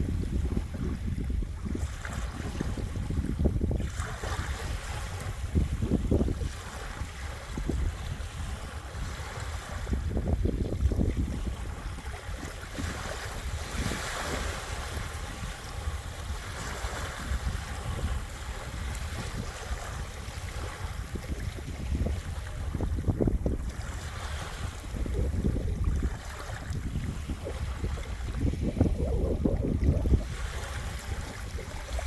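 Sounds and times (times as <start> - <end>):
small waves washing onto shore: 0.0 - 32.0
wind buffeting microphone: 0.0 - 32.0.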